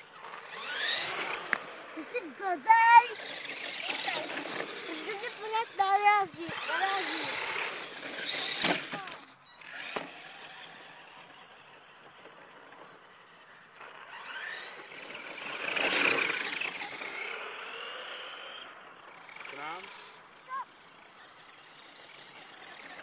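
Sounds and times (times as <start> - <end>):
electric motor whining: 0.0 - 23.0
tyres on asphalt: 0.0 - 23.0.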